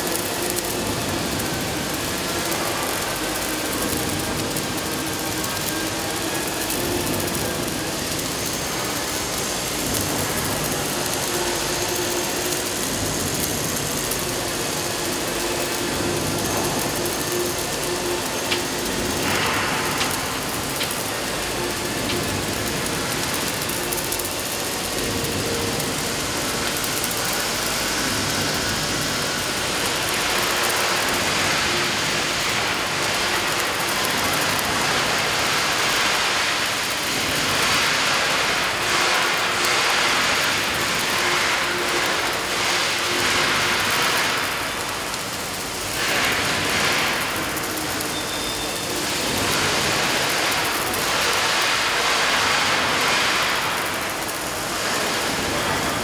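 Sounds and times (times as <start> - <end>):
welding arc hissing: 0.0 - 56.0.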